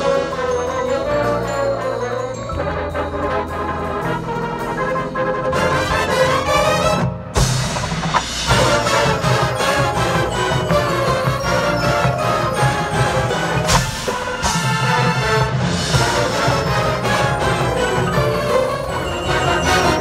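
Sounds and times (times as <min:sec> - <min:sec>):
mallet keyboards: 0:00.0 - 0:05.0, 0:05.6 - 0:20.0
brass chords: 0:00.0 - 0:20.0
marching percussion: 0:00.0 - 0:20.0.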